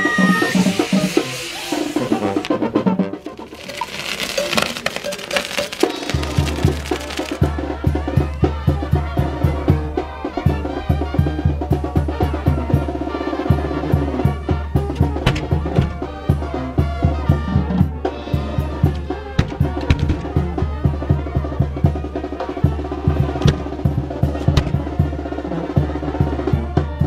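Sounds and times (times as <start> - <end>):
brass band music with drums: 0.0 - 27.0.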